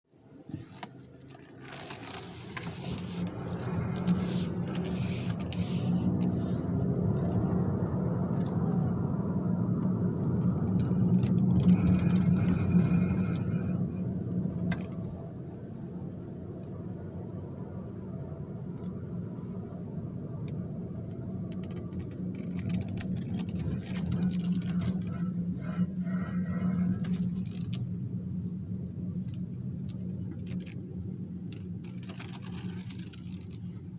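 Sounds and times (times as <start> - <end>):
car driving drone: 1.7 - 32.3.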